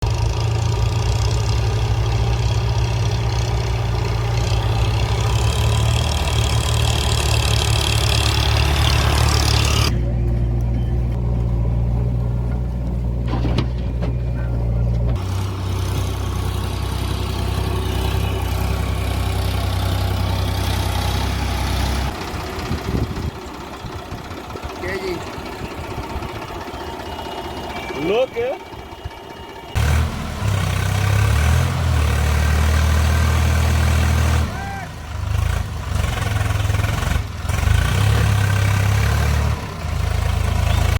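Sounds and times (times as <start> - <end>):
heavy vehicle engines humming: 0.0 - 40.9.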